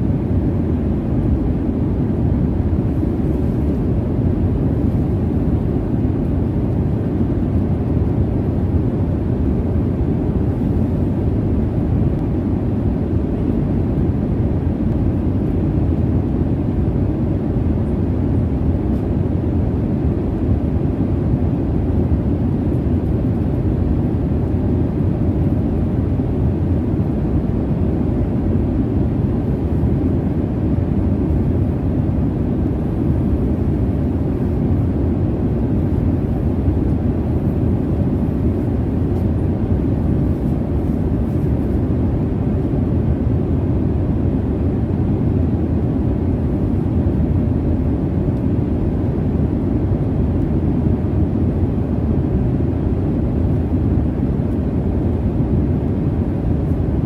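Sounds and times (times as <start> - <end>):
faint steady hum: 0.0 - 57.0
jet cabin engine rumble: 0.0 - 57.0.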